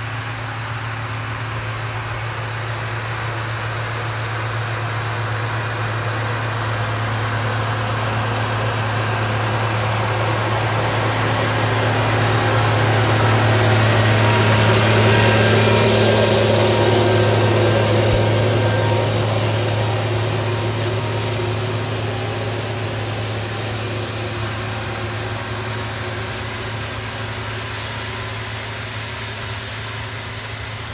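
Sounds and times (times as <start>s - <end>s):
tractor diesel engine running: 0.0s - 30.9s
harrow discs scraping soil: 4.9s - 30.9s.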